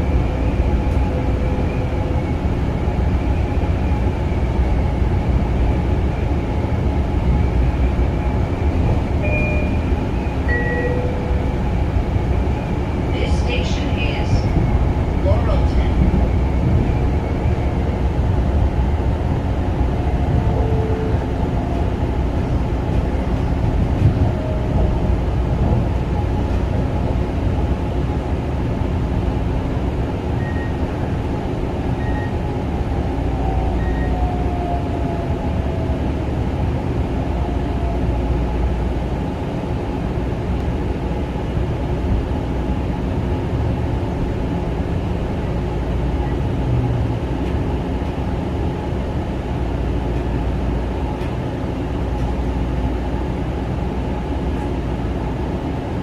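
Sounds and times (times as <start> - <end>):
train electrical hum: 0.0 - 56.0
train wheels rumbling on rails: 0.0 - 56.0.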